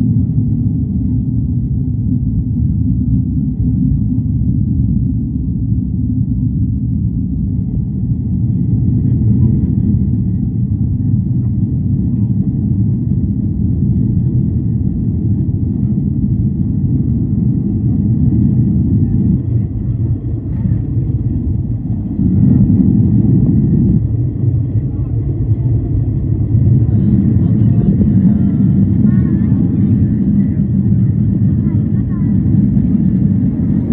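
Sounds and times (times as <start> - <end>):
jet engine cabin rumble: 0.0 - 33.9.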